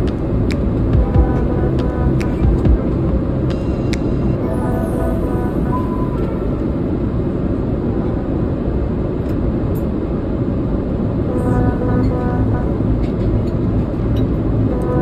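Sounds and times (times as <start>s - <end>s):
airplane cabin engine hum: 0.0s - 15.0s.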